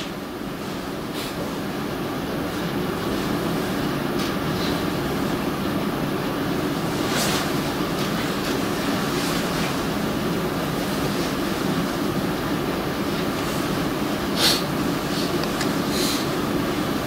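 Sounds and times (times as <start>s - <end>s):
rumbling room hum: 0.0s - 17.0s.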